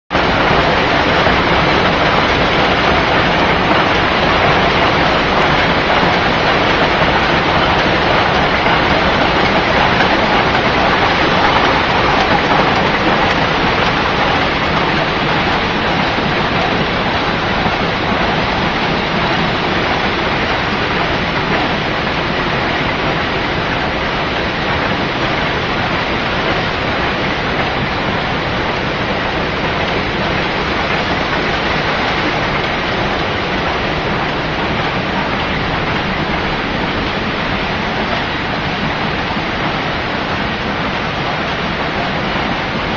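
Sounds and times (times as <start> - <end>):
rope-making machine running: 0.1 - 42.9.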